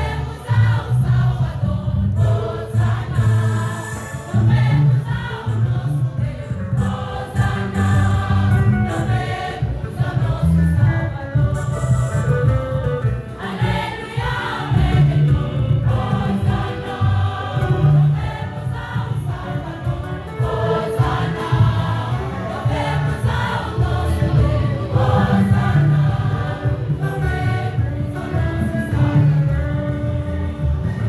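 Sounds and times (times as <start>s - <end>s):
choir singing gospel music: 0.0s - 31.0s.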